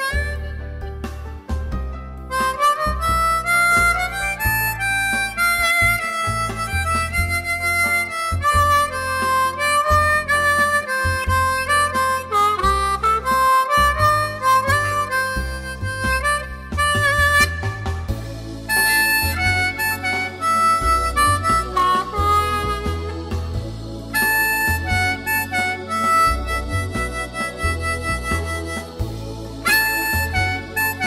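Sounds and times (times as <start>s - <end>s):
background music with bass notes: 0.0s - 31.0s.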